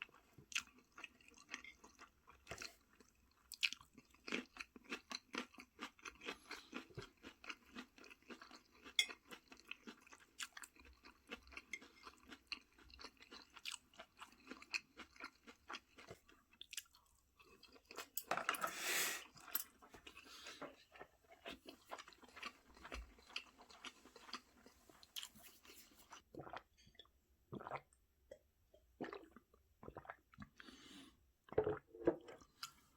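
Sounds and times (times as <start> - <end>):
person chewing food: 0.0 - 18.2, 19.2 - 28.4.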